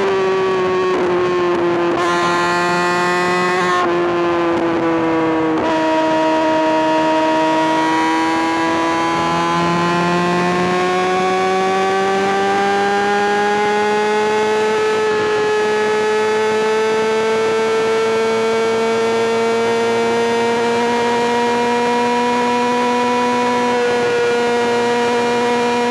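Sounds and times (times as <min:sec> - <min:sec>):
motorcycle engine revving high: 0:00.0 - 0:25.9.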